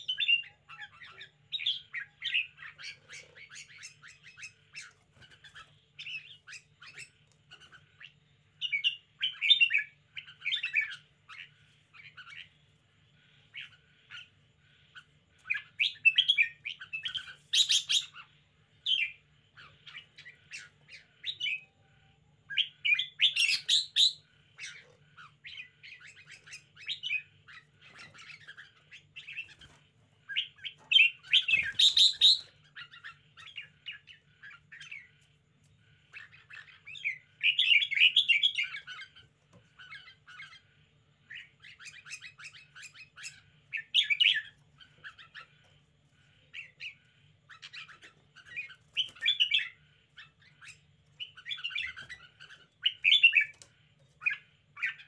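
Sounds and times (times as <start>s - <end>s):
bird chirping song: 0.0s - 55.0s.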